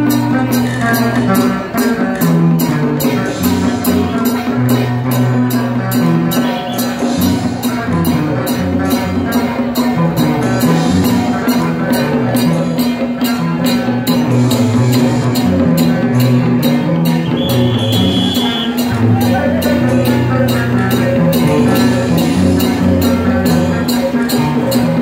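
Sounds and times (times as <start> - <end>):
loud music with fast beat: 0.0 - 25.0.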